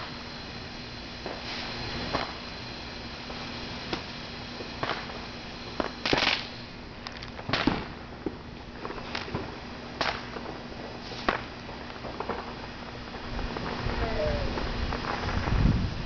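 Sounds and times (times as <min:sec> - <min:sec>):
fireworks bangs and pops: 0:00.0 - 0:16.0
fireworks crackling burst: 0:00.0 - 0:16.0.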